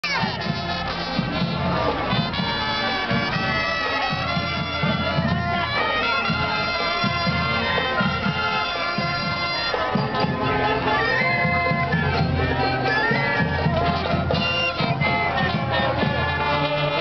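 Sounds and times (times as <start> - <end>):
brass horns sustained notes: 0.0 - 17.0
marching band playing: 0.0 - 17.0
steady low drum beat: 0.2 - 16.6.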